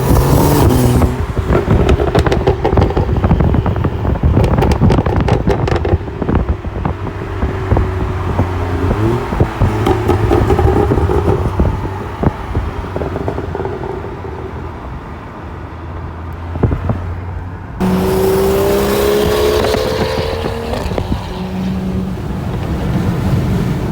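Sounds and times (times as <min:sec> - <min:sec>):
exhaust pops: 0:00.0 - 0:15.1, 0:17.8 - 0:23.9
car engine running: 0:00.0 - 0:15.5, 0:16.3 - 0:23.6.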